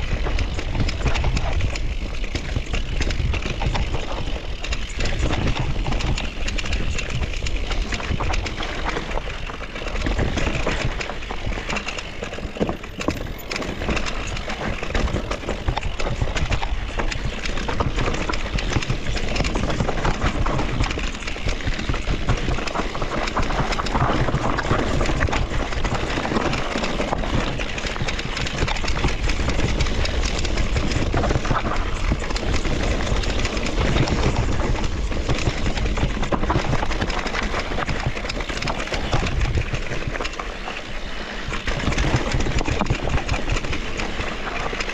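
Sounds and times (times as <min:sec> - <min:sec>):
bike rattling and knocking: 0:00.0 - 0:44.9
rush of tyre and wind noise: 0:00.0 - 0:44.9.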